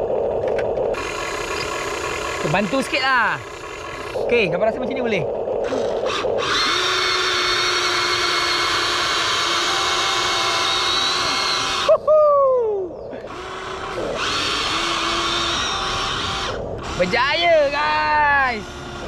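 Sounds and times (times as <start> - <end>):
toy excavator motors whining: 0.0 - 12.0, 13.0 - 19.0.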